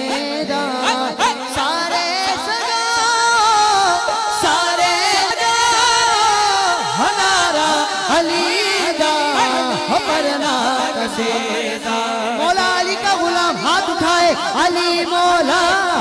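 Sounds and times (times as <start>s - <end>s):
man singing devotional song: 0.0s - 16.0s.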